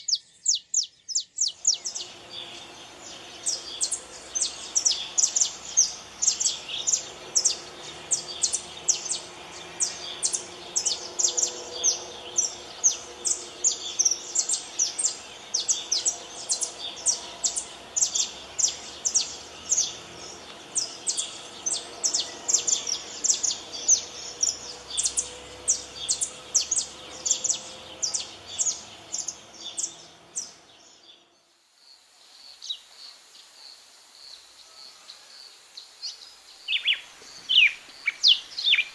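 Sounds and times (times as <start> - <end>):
songbird chirping fast: 0.0 - 31.2, 36.0 - 38.9.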